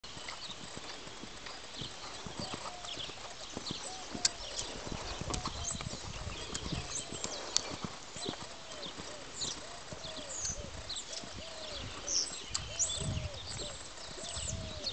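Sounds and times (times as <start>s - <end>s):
horse hoofbeats on sand: 0.0s - 14.9s.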